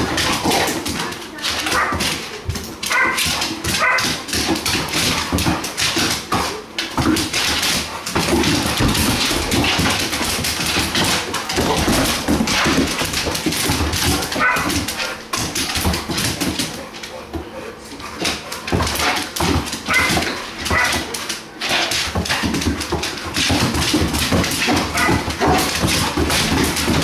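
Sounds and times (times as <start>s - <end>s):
dog claws clicking on wood floor: 0.0s - 27.0s.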